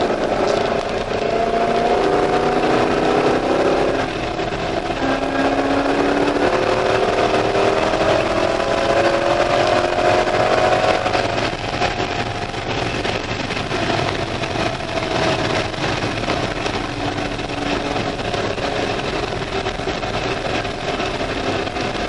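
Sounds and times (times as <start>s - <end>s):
car engine running hard: 0.0s - 22.0s.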